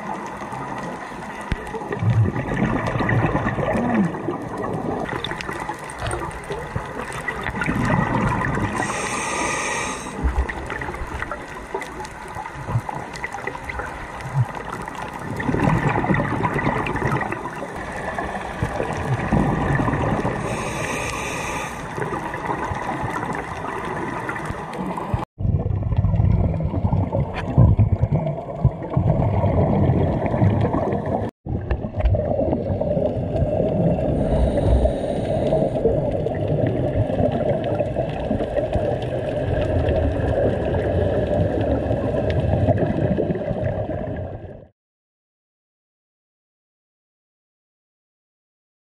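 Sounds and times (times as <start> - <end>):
underwater regulator bubbles: 0.0 - 44.7.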